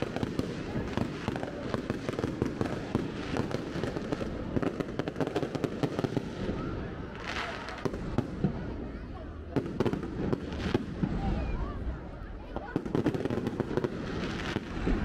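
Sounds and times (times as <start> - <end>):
fireworks cracking and popping: 0.0 - 15.0
fireworks crackle: 0.0 - 15.0.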